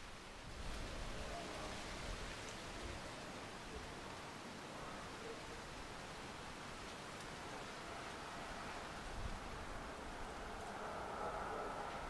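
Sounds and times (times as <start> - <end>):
wind rustling trees: 0.0 - 12.0.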